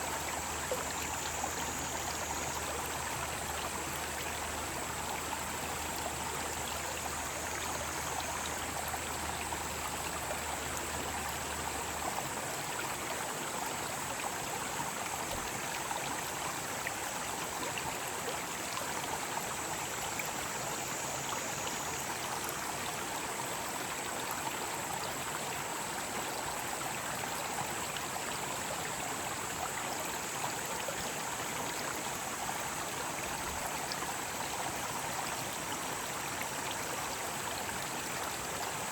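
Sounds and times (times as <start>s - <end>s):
mountain stream flowing: 0.0s - 38.9s.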